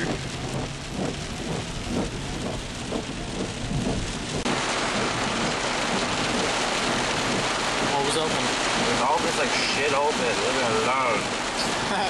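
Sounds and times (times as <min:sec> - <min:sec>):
heavy rain on a car roof: 0:00.0 - 0:12.0.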